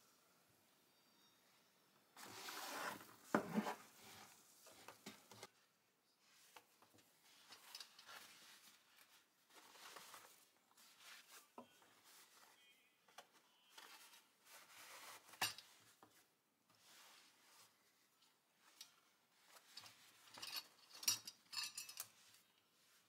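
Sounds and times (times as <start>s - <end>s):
faint cloth rustling: 2.2s - 20.8s.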